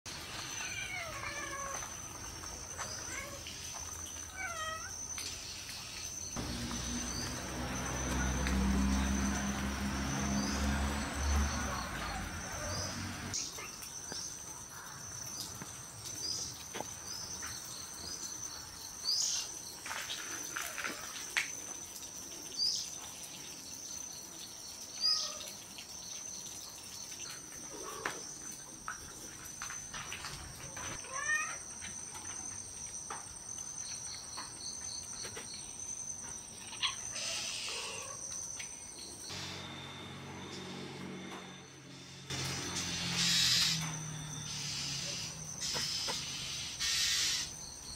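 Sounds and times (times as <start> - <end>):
insects droning: 0.1 - 47.9.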